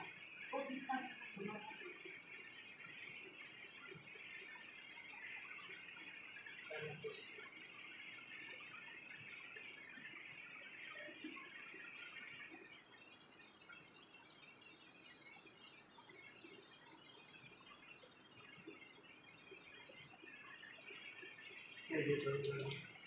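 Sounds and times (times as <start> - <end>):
chorus of night insects: 0.0 - 23.0
crickets chirping faintly: 0.0 - 23.0.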